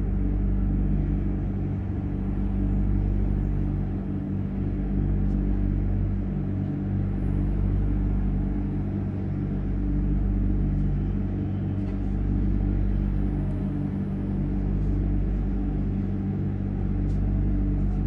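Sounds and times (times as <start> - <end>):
distant city traffic rumble: 0.0 - 18.0
low tonal hum: 0.0 - 18.0.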